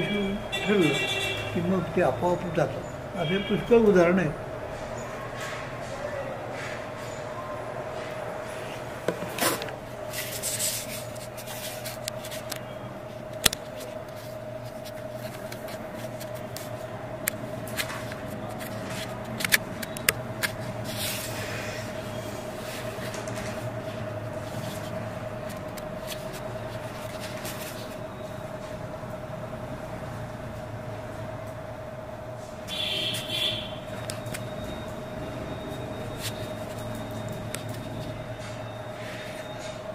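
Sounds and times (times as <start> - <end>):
steady room hum: 0.0 - 39.9.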